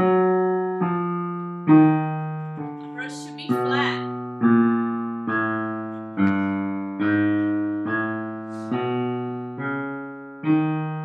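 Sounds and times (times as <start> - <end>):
digital piano chords: 0.0 - 11.0.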